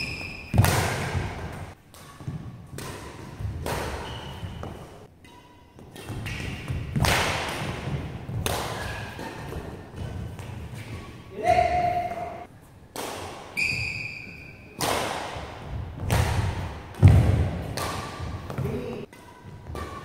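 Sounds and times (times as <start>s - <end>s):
racket hitting shuttlecock: 0.0s - 20.0s.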